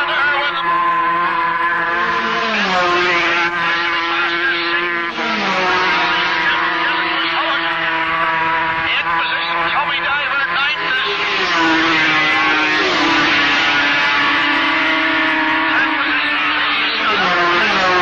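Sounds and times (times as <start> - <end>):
racing motorcycle engines revving: 0.0 - 18.0.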